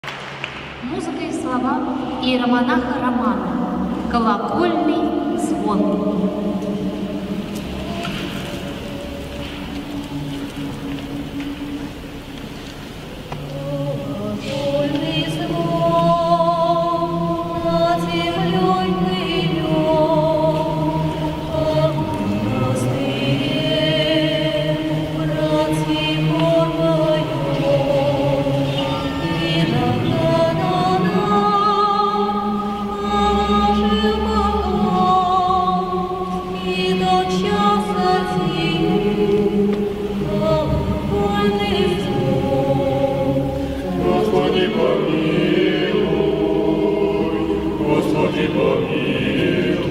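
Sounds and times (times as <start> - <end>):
vocal ensemble singing chords: 0.0 - 49.9.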